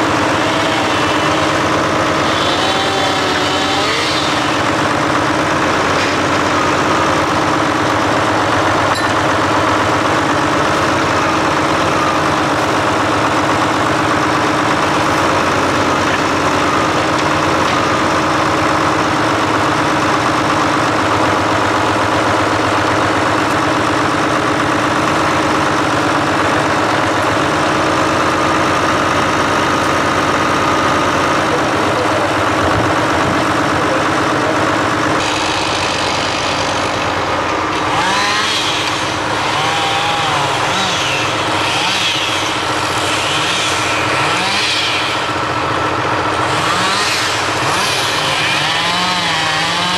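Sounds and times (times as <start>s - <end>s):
hydraulic whine: 0.0s - 49.9s
tractor diesel engine running: 0.0s - 49.9s.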